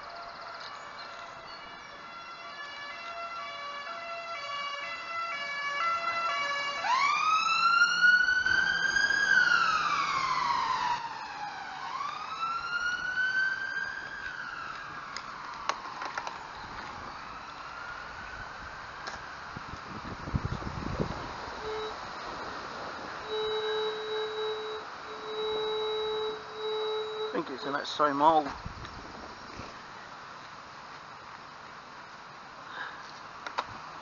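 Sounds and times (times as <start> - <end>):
emergency vehicle siren: 0.0 - 28.4.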